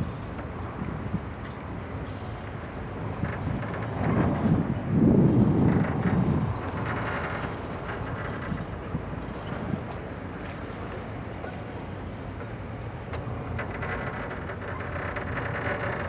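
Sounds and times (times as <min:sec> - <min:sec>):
wind and harbour noise: 0:00.0 - 0:16.0.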